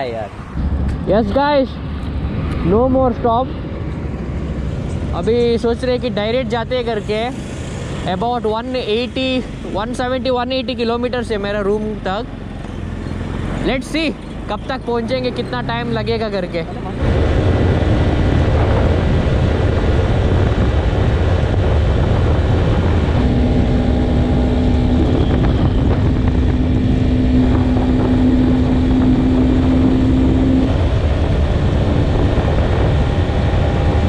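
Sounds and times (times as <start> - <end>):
wind rushing on microphone: 0.0 - 10.5, 13.3 - 34.0
motorcycle engine cruising: 0.0 - 34.0.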